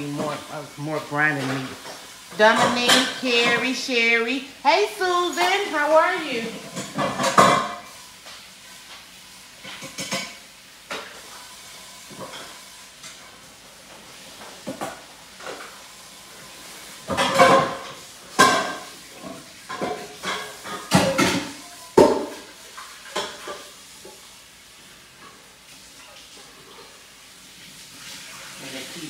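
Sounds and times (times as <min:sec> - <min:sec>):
low sizzle: 0:00.0 - 0:29.0.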